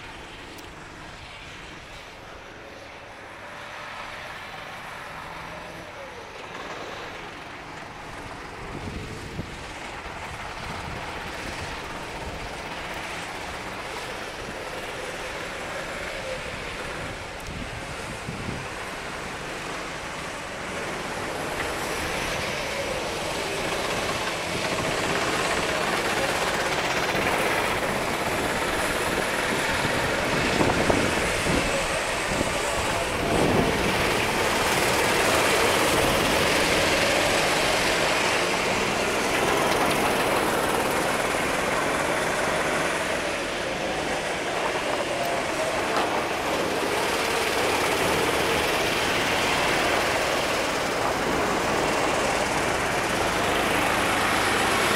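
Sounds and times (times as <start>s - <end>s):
kart engines passing: 0.0s - 54.9s
tyres hissing on wet asphalt: 10.8s - 54.9s.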